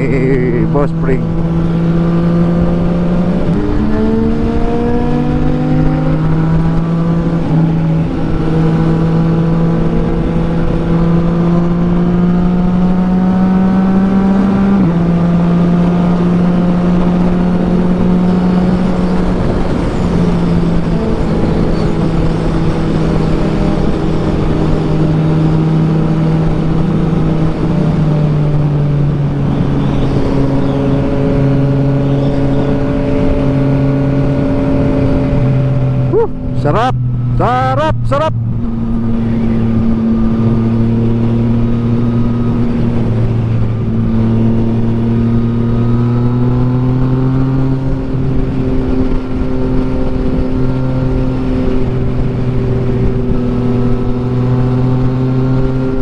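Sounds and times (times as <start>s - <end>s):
motorcycle engine at highway speed: 0.0s - 56.0s
wind rushing over microphone: 0.0s - 56.0s.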